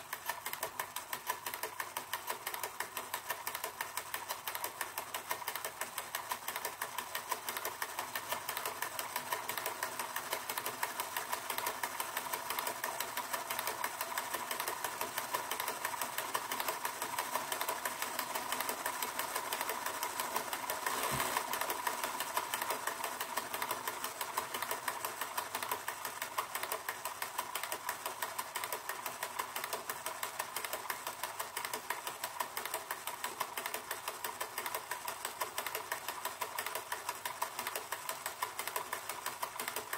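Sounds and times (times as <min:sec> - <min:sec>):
fast mechanical ticking: 0:00.0 - 0:39.9.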